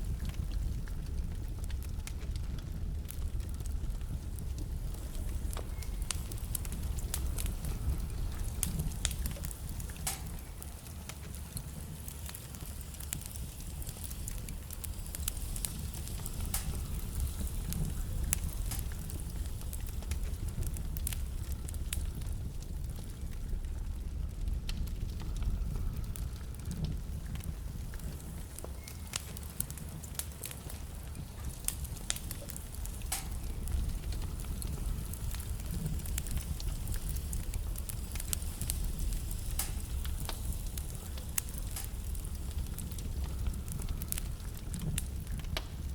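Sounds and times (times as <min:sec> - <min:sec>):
burning wood crackling and popping: 0:00.0 - 0:45.9
fire flames rumbling: 0:00.0 - 0:45.9.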